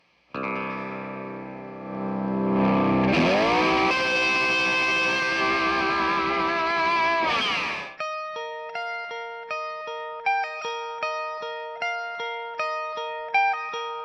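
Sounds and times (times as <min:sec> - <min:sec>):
fuzzed electric guitar: 0:00.0 - 0:14.0.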